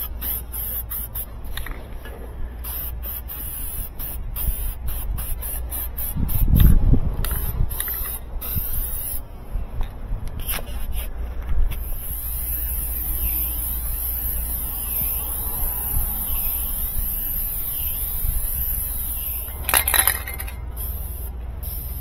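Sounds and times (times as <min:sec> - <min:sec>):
spray can hissing: 0:00.0 - 0:01.3, 0:02.6 - 0:09.2, 0:11.8 - 0:22.0
spray can ball rattling: 0:00.0 - 0:01.8, 0:02.6 - 0:09.2, 0:11.7 - 0:22.0.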